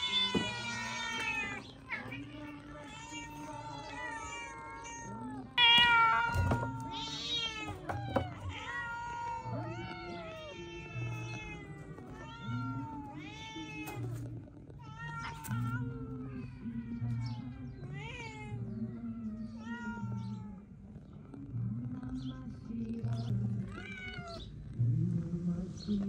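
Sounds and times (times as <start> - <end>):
cats meowing: 0.0 - 20.8, 23.0 - 24.6.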